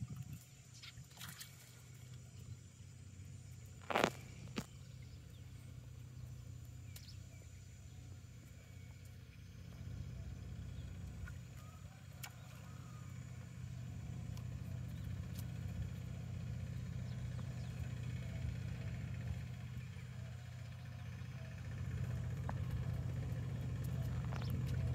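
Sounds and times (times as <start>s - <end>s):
motor engine humming: 1.8s - 24.9s.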